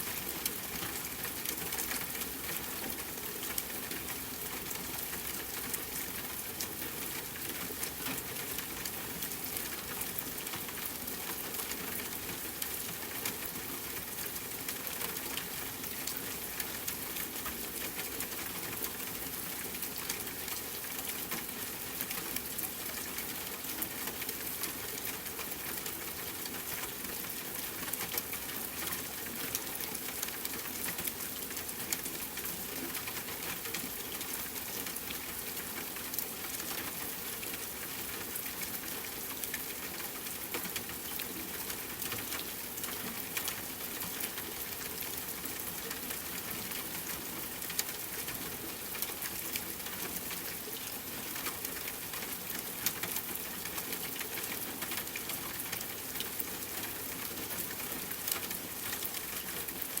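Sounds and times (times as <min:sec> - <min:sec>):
steady rainfall: 0:00.0 - 1:00.0.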